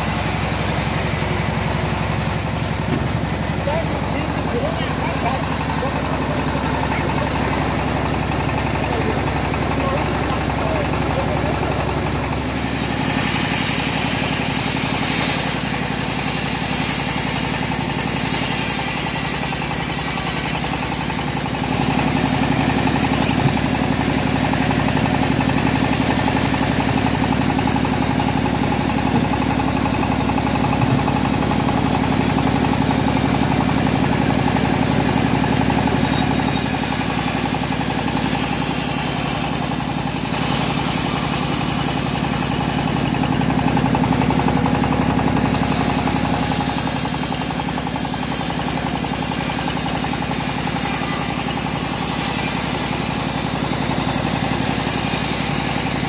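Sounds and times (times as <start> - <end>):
engine-driven bandsaw running: 0.0 - 56.0.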